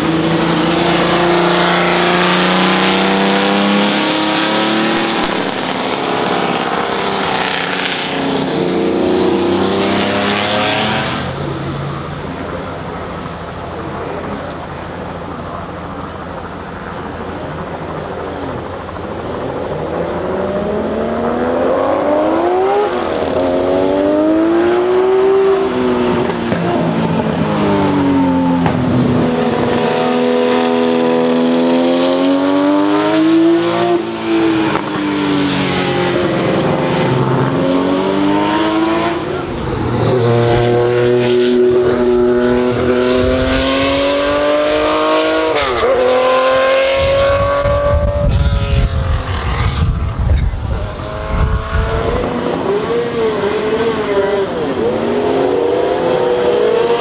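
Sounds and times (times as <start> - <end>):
race car engine accelerating: 0.0 - 12.8, 13.4 - 57.0
other car engine accelerating: 0.0 - 57.0.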